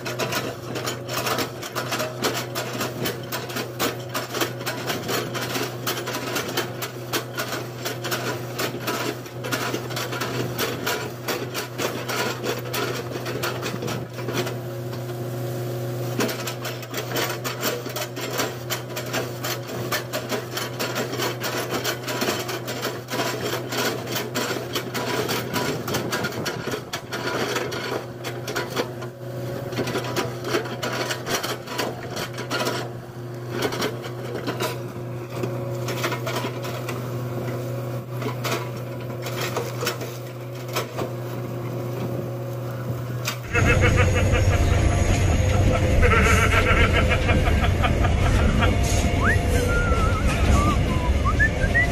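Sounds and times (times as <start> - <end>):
excavator engine hum: 0.0 - 51.9.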